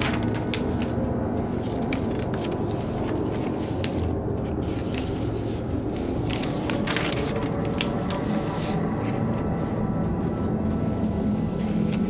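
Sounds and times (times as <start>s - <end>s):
low steady drone: 0.0s - 12.0s
paper rustling: 0.0s - 12.0s.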